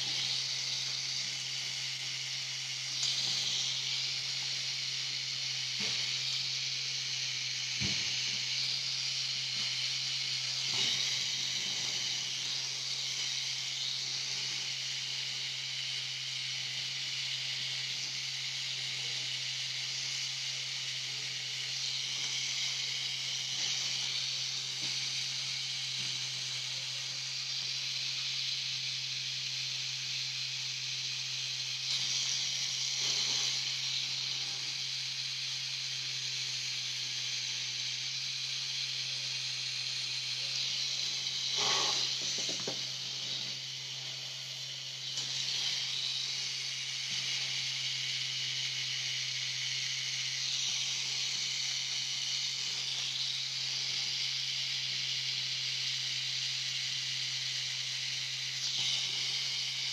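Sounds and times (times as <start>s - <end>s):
tattoo machine humming: 0.0s - 59.9s.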